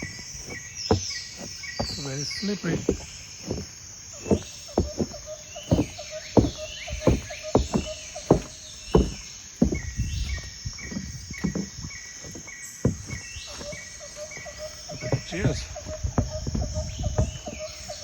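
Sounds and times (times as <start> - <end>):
footsteps crunching through snow: 0.0 - 18.0.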